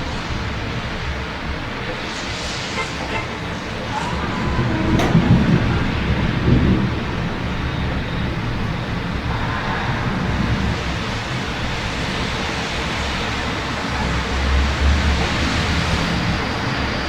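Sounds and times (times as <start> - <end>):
steady rain: 0.0 - 17.0
traffic noise: 0.0 - 17.0.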